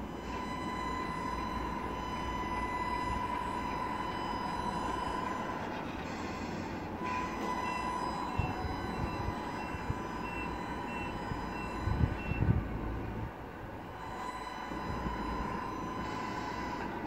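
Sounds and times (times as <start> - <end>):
electric motor whine: 0.0 - 17.0
held high tone: 0.0 - 17.0.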